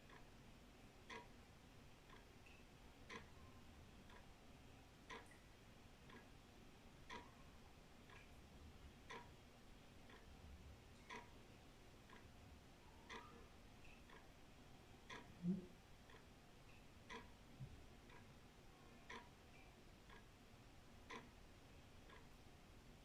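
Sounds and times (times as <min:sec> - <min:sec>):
wall clock ticking: 0:00.0 - 0:23.0.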